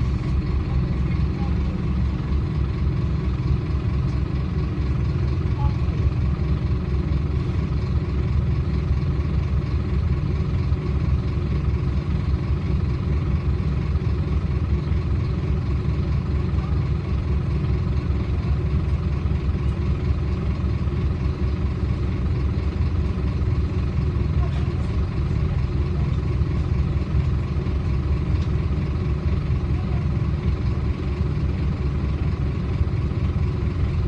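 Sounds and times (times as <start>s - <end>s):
bus diesel engine humming: 0.0s - 34.0s.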